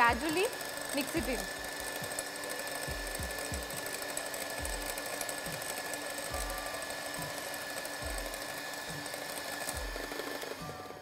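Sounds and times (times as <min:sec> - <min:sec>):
electric hand mixer whisking: 0:00.0 - 0:11.0.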